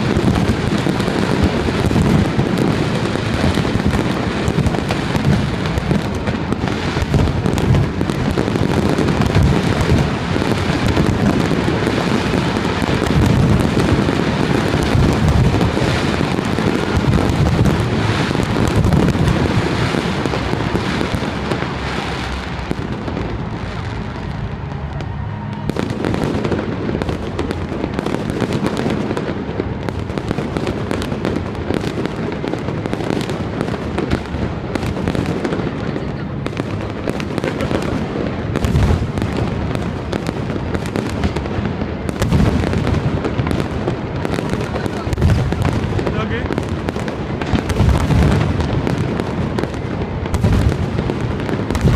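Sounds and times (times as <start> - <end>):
fireworks bursting and crackling: 0.0 - 51.9
heavy low firework booms: 0.0 - 51.9.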